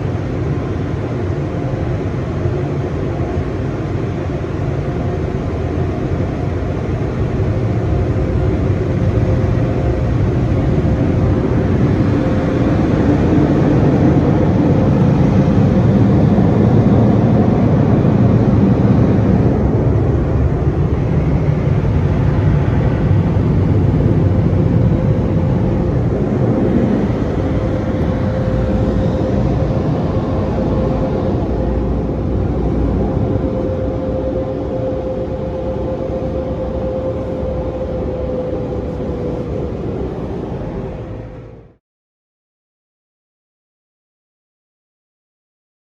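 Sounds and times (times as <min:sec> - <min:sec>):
dryer blowers rushing air: 0:00.0 - 0:41.8
steady hum: 0:00.0 - 0:41.8.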